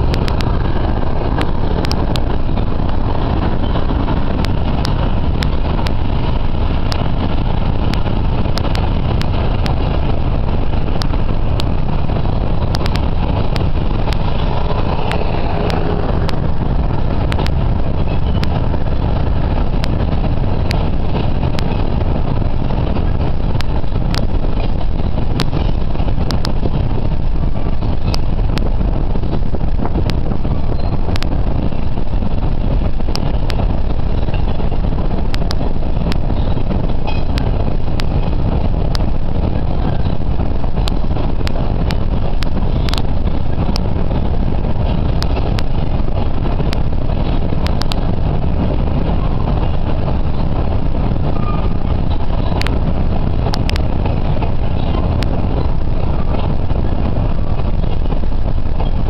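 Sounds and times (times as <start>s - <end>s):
freight train rumbling past: 0.0s - 59.0s
train clicks and clanks: 0.0s - 59.0s.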